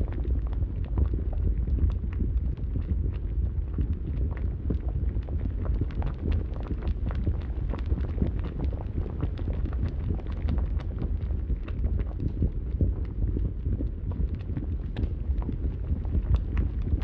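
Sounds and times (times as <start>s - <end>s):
fire rumbling: 0.0s - 17.0s.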